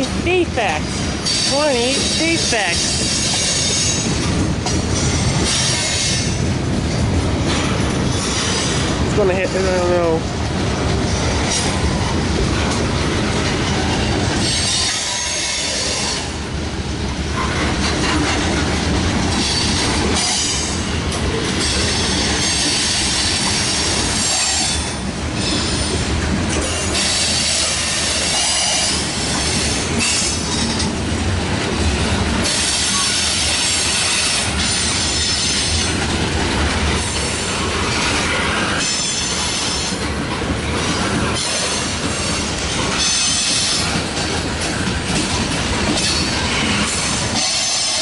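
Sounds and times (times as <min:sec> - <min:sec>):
freight train wheels on rails: 0:00.0 - 0:48.0.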